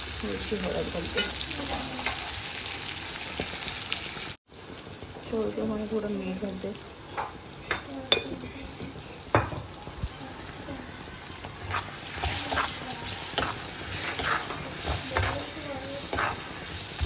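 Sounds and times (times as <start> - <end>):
vegetables sizzling: 0.0 - 17.0.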